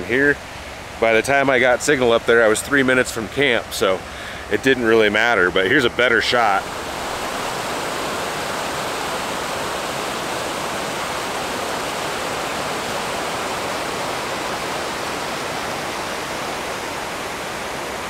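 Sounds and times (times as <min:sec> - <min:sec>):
creek rushing over boulders: 0:00.0 - 0:18.0.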